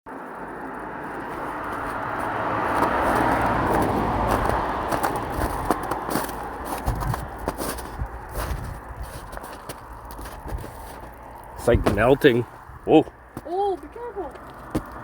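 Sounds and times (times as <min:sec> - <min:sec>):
footsteps on roadside: 0:00.1 - 0:15.0
vehicle passing on highway: 0:00.1 - 0:15.0.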